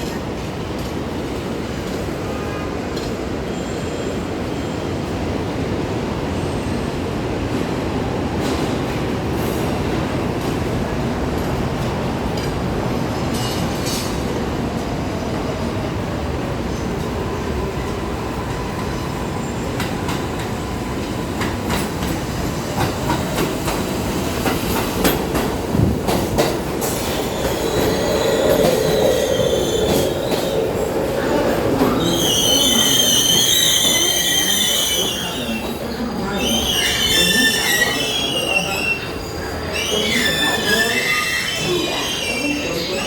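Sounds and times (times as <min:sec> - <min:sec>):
subway train rumble: 0:00.0 - 0:43.0.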